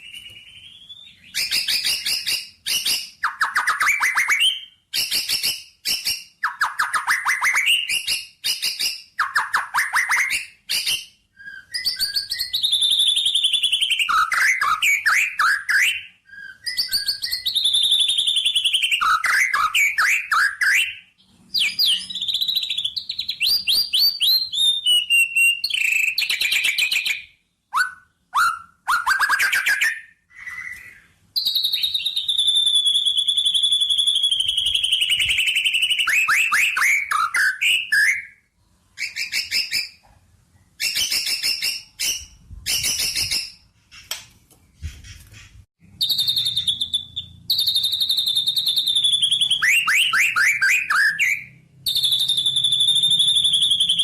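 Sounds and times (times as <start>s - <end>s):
songbird singing: 0.0s - 38.4s, 39.0s - 54.0s.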